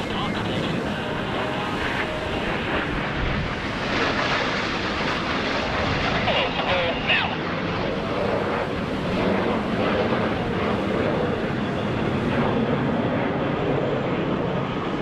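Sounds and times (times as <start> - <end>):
jet engine rushing overhead: 0.0 - 15.0.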